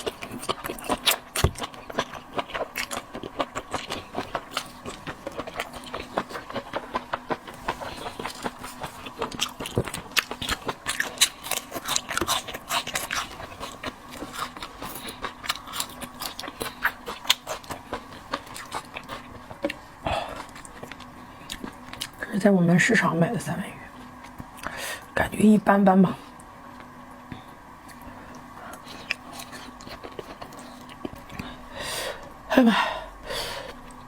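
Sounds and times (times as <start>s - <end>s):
chewing seafood: 0.0s - 22.2s, 26.3s - 32.3s.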